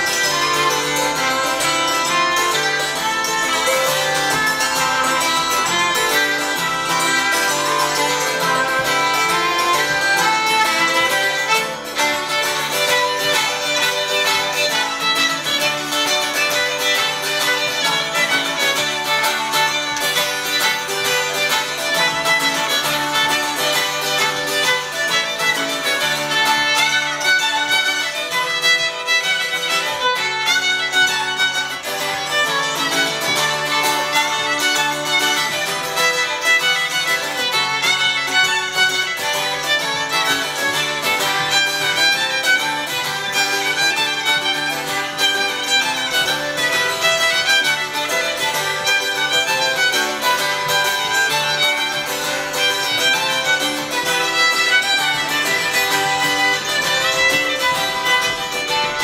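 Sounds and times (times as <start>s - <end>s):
acoustic guitar: 0.0s - 59.0s
fiddle playing jigs: 0.0s - 59.0s
hammered dulcimer: 0.0s - 59.0s.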